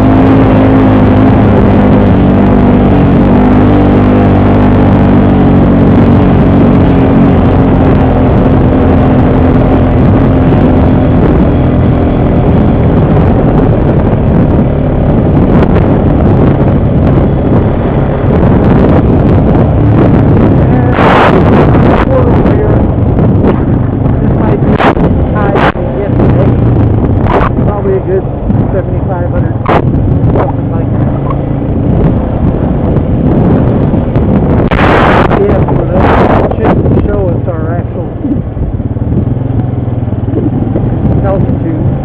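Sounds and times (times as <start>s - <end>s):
atv engine running: 0.0s - 42.0s
wind on microphone: 0.0s - 42.0s.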